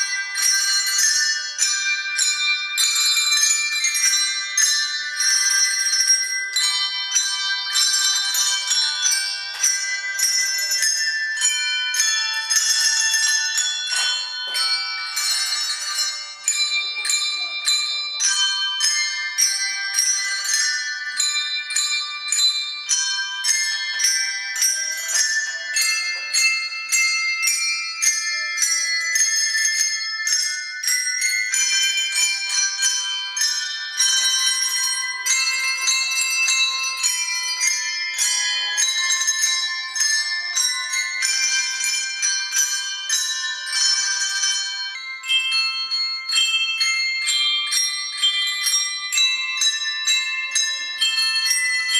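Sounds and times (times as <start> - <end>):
handbells ringing a tune: 0.0 - 51.9.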